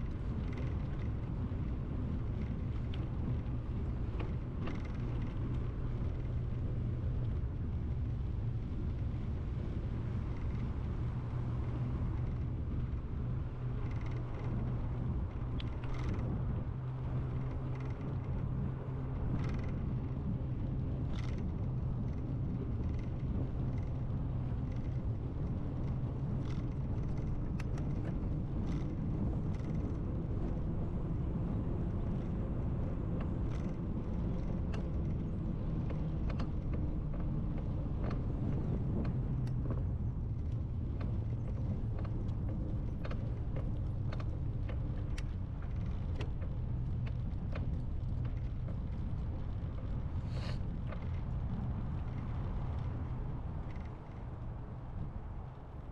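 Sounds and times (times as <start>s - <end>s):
bicycle rumbling on pavement: 0.0s - 55.9s.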